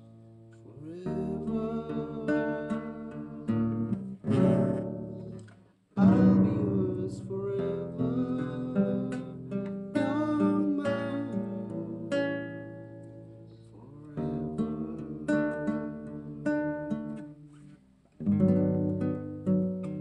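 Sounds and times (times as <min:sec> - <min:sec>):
classical guitar playing: 0:00.0 - 0:20.0.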